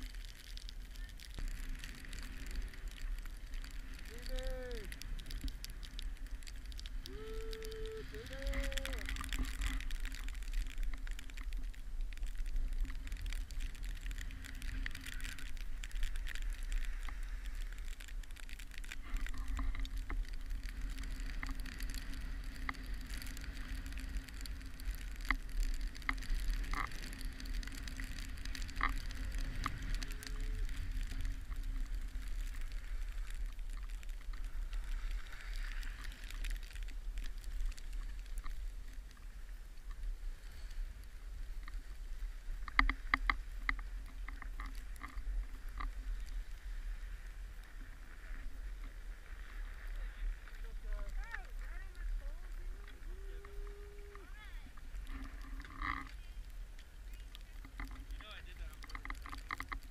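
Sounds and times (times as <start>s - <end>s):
skis scraping over packed snow: 0.0s - 59.9s.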